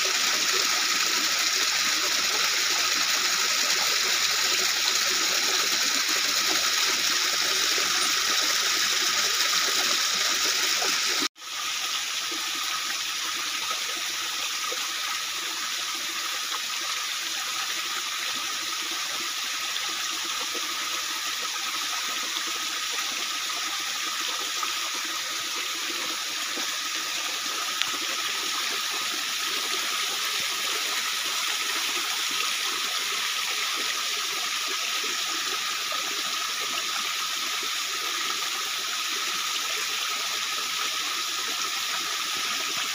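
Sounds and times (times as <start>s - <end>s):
stream running over stones: 0.0s - 42.9s.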